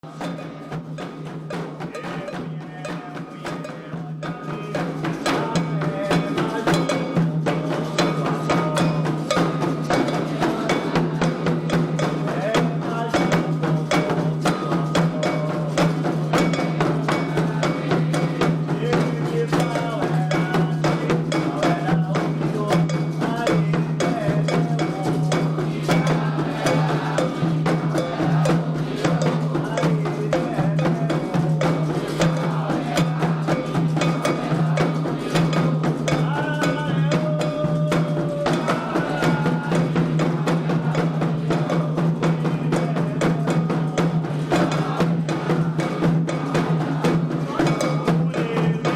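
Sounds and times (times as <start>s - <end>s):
hand drums playing fast rhythm: 0.0s - 48.9s
people singing: 0.0s - 48.9s
struck bell: 0.1s - 48.9s.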